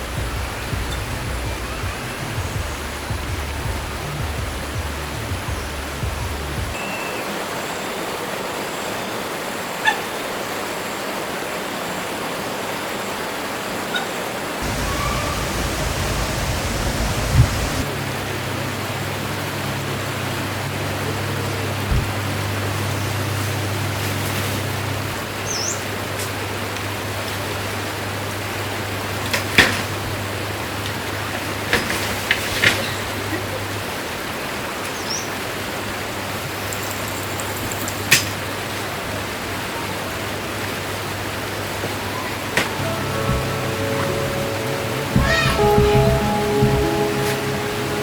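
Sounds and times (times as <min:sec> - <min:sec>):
forest stream flowing: 0:00.0 - 0:48.0.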